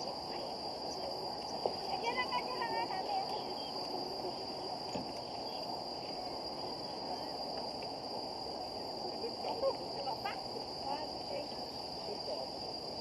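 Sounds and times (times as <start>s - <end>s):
insects chirring: 0.0s - 13.0s
low outdoor hum: 0.0s - 13.0s.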